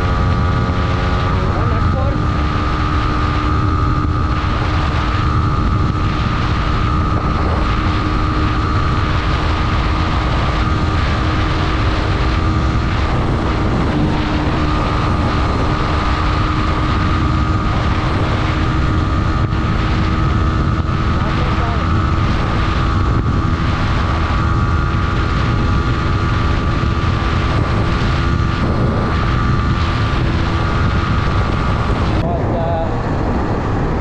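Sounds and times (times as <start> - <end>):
motorcycle engine running hard: 0.0 - 34.0
wind rush on microphone: 0.0 - 34.0.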